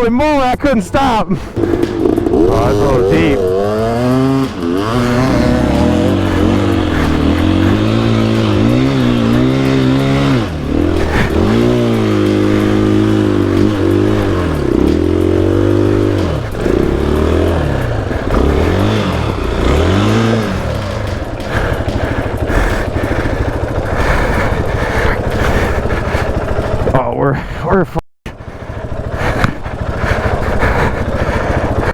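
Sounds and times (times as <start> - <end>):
dirt bike engine revving: 1.0 - 27.2, 28.3 - 31.9
rattling and knocks: 1.4 - 27.0, 28.3 - 31.9.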